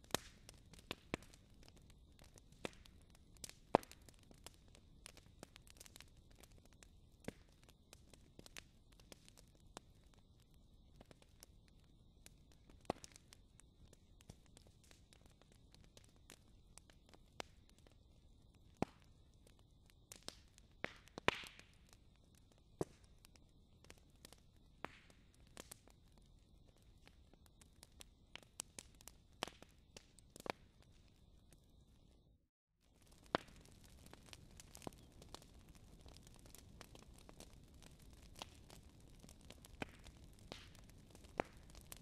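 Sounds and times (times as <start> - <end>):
wood fire crackling: 0.0 - 32.2, 32.8 - 42.0.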